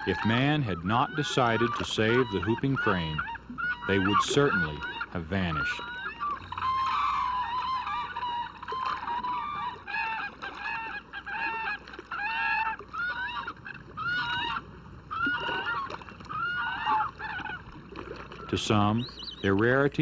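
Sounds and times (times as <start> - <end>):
cranes bugling calls: 0.0 - 19.6.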